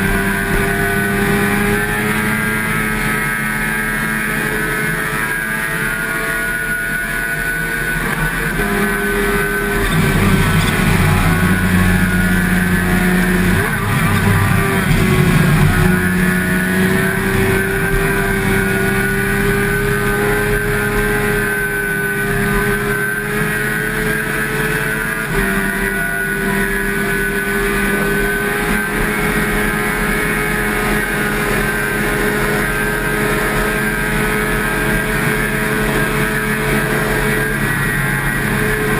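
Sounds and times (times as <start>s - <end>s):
motorcycle engine changing gear: 0.0s - 38.9s.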